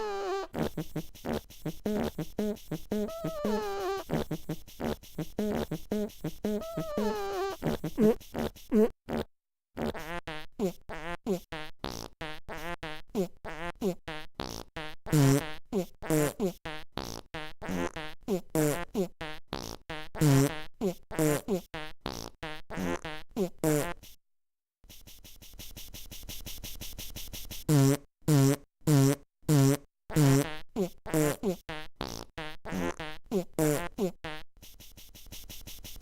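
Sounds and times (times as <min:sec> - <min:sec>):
fart sounds: 0:00.0 - 0:24.2, 0:27.6 - 0:36.0.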